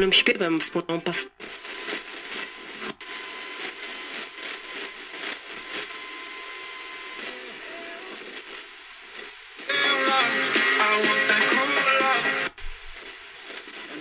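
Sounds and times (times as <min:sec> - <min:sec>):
radio static hissing: 0:00.0 - 0:14.0.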